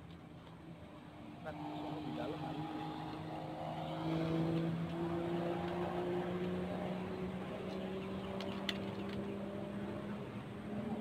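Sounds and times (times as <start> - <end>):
engine hum rising in pitch: 0.6 - 11.0.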